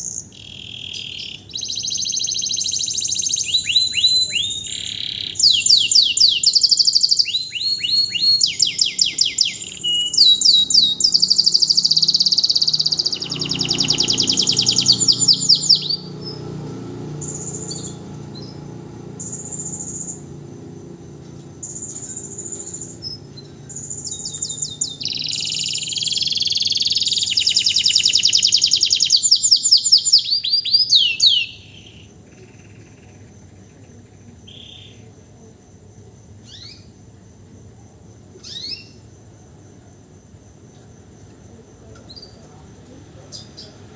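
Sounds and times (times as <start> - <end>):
canary singing trills: 0.0 - 35.3, 36.4 - 37.0, 38.4 - 39.1, 41.9 - 43.9.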